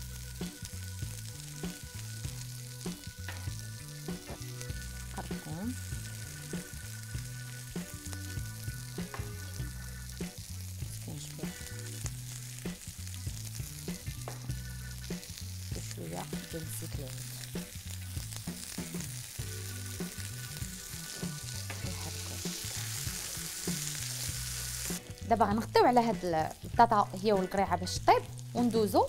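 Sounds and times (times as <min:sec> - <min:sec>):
background music: 0:00.0 - 0:29.0
vegetables sizzling in a frying pan: 0:00.0 - 0:29.0.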